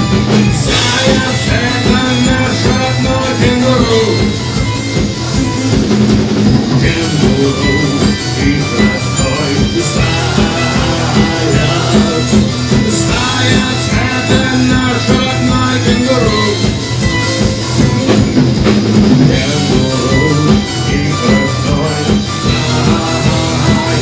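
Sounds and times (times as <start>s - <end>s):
bass guitar: 0.0s - 24.0s
drum kit beat: 0.0s - 24.0s
electric guitar: 0.0s - 24.0s.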